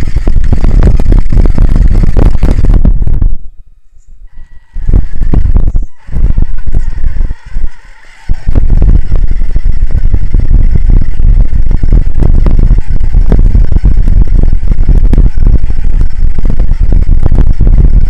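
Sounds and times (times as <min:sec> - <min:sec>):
wind buffeting microphone: 0:00.0 - 0:03.6, 0:04.3 - 0:18.0.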